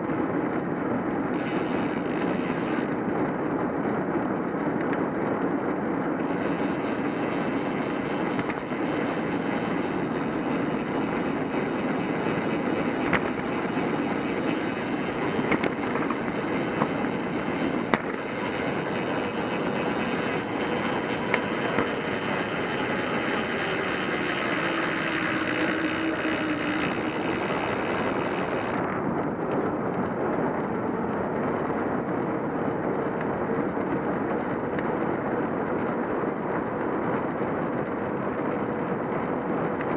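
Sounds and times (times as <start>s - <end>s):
bicycle tyres on road: 0.0s - 39.9s
wind on microphone: 0.0s - 39.9s.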